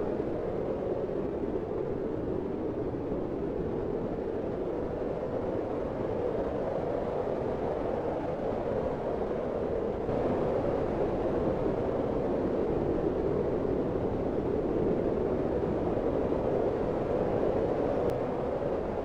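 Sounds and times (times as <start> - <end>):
strong snowstorm wind: 0.0 - 19.0.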